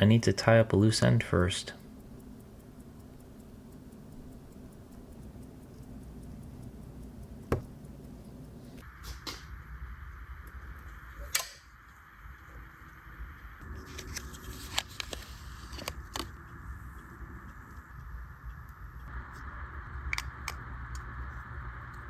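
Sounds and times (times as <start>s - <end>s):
watch ticking: 0.0s - 22.0s.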